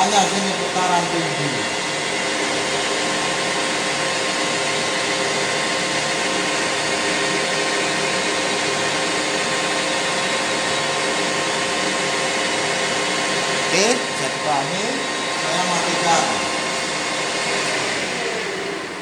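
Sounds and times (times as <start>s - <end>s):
lathe running: 0.0s - 19.0s.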